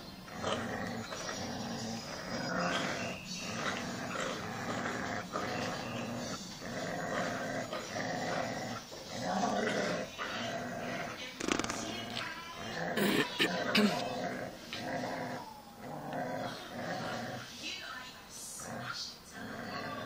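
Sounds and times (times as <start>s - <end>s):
dogs play-growling: 0.0s - 17.8s, 18.4s - 20.0s.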